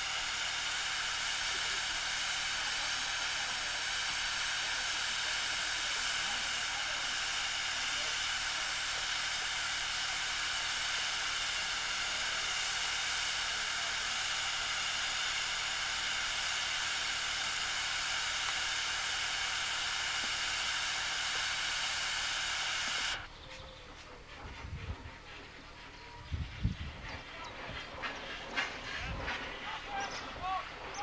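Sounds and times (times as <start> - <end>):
steam hissing: 0.0 - 23.3, 24.1 - 31.0.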